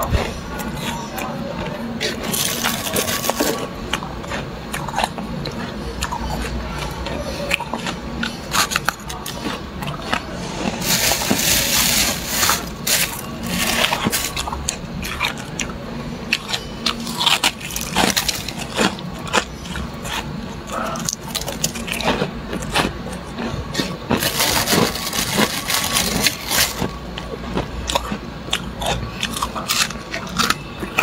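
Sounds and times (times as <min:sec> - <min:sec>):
frost crunching and crackling: 0:00.0 - 0:31.0.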